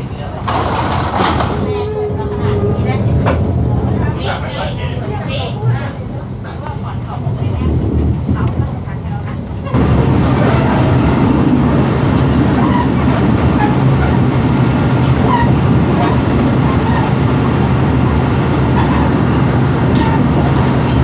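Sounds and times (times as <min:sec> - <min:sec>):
faint passenger voices: 0:00.0 - 0:21.0
train wheels rumbling on track: 0:00.0 - 0:21.0.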